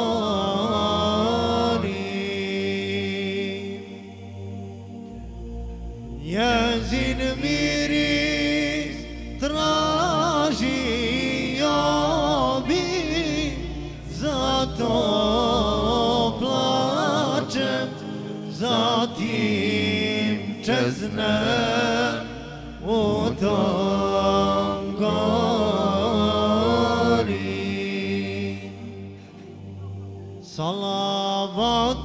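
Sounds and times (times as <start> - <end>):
person singing ornamented melody: 0.0 - 4.2, 6.2 - 29.1
low musical accompaniment: 0.0 - 32.0.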